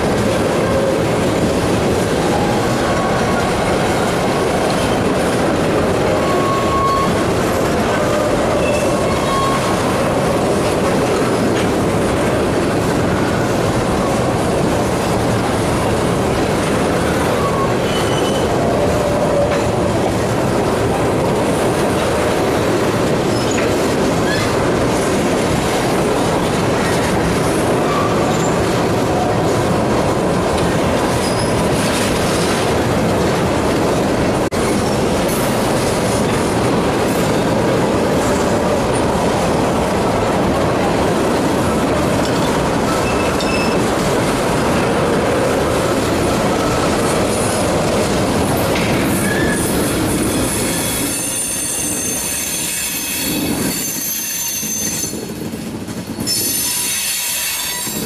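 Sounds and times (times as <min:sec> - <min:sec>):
steel wheels running on rail: 0:00.0 - 0:58.0.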